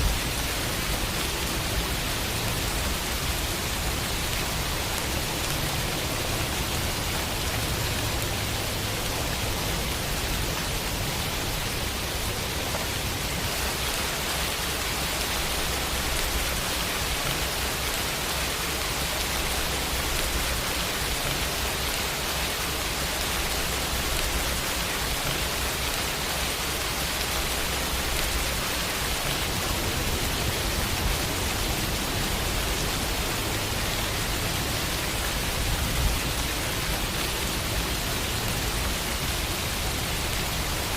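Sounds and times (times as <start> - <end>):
rain on a window pane: 0.0 - 40.9.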